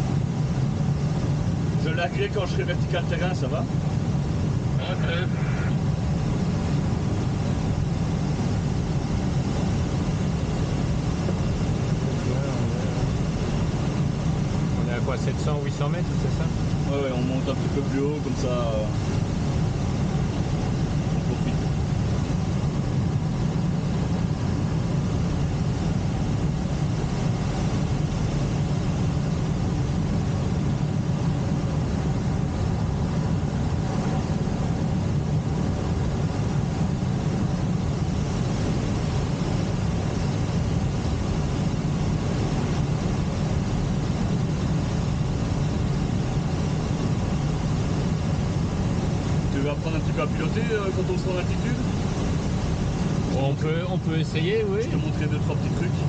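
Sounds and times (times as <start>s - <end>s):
air streaming over canopy: 0.0s - 56.0s
tow plane engine running: 0.0s - 56.0s.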